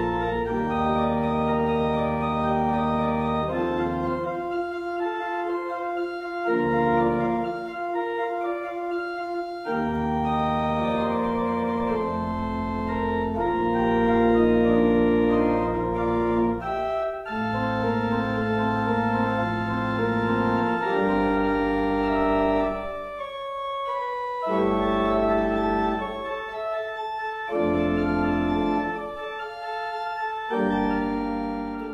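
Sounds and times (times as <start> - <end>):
organ chords: 0.0 - 31.9.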